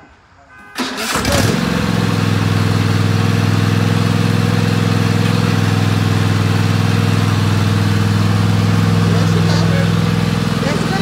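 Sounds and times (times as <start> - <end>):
lawn mower engine running: 0.8 - 11.0.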